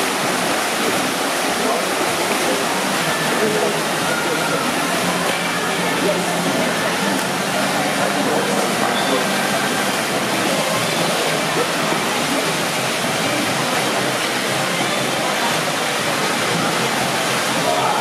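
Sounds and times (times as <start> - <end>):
swimmers splashing water: 0.0 - 18.0.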